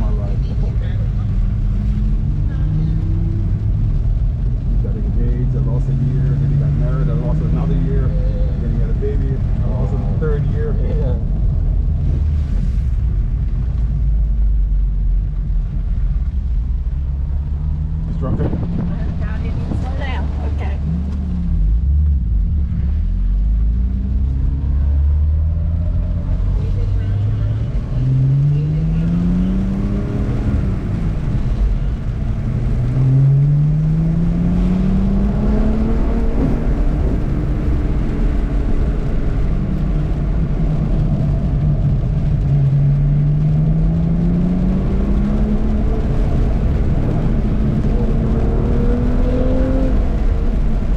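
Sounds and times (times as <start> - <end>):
car engine running: 0.0 - 50.9
low road rumble: 0.0 - 50.9.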